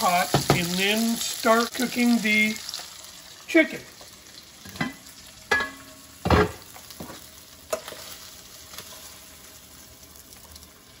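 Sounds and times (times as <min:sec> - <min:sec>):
sausage sizzling in a frying pan: 0:00.0 - 0:11.0.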